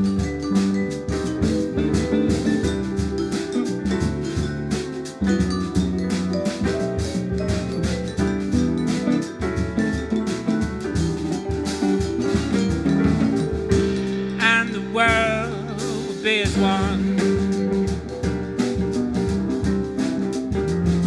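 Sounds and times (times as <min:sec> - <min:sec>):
high melody with wide vibrato: 0:00.0 - 0:21.0
jazz combo playing: 0:00.0 - 0:21.0.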